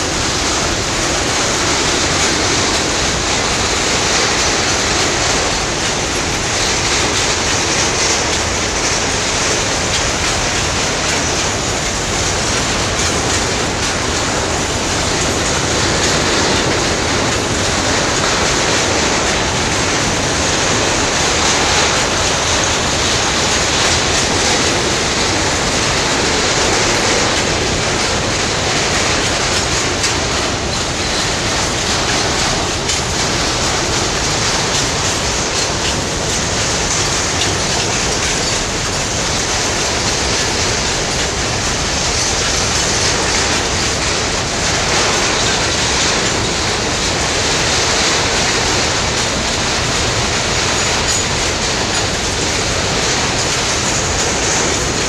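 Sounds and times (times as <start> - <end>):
steel train wheels on rails: 0.0 - 55.0.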